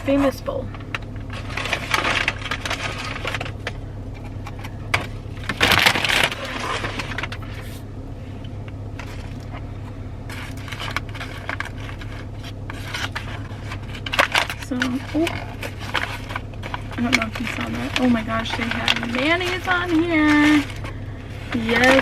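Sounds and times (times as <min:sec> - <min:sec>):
paper and plastic crinkling: 0:00.0 - 0:22.0
steady low hum: 0:00.0 - 0:22.0.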